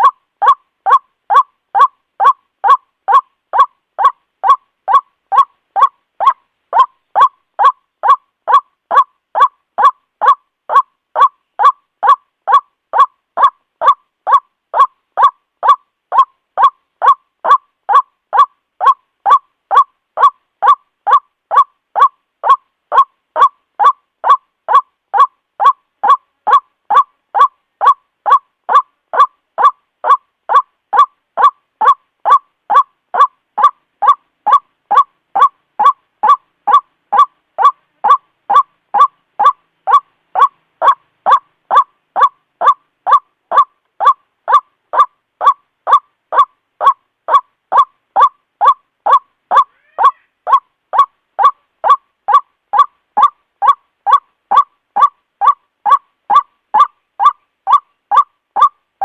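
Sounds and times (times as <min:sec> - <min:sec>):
waterhen calling: 0:00.0 - 0:58.8.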